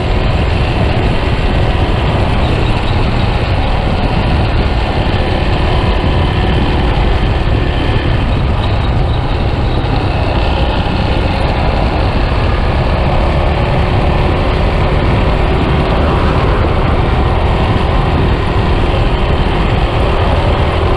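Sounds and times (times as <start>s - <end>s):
motorcycle engine running: 0.0s - 20.9s
road and wind noise: 0.0s - 20.9s.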